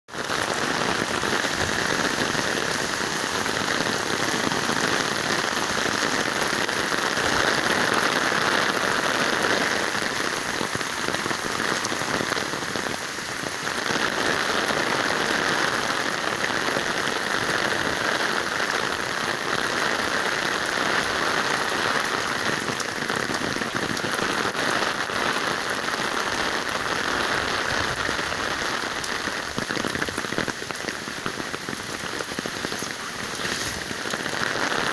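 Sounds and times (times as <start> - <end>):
heavy rain on pavement: 0.1 - 34.9.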